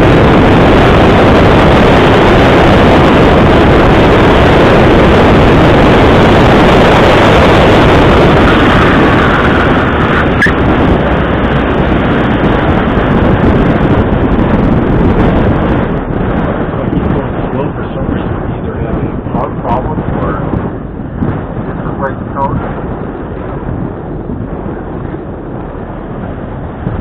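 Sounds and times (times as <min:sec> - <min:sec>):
car engine running: 0:00.0 - 0:27.0
wind and road noise rushing: 0:00.0 - 0:27.0.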